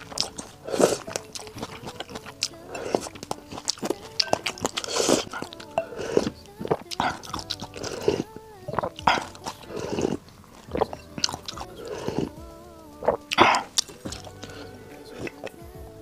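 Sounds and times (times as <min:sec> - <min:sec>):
slurping soup: 0:00.0 - 0:12.4, 0:13.0 - 0:15.6
soft background music: 0:00.0 - 0:16.0.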